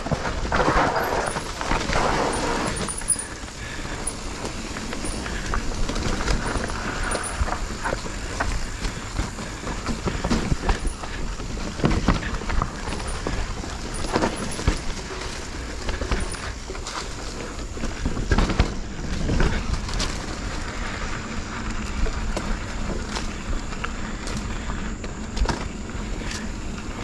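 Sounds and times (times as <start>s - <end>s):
bike rattling over bumps: 0.0s - 27.0s
mountain bike tyre rush on dirt: 0.0s - 27.0s.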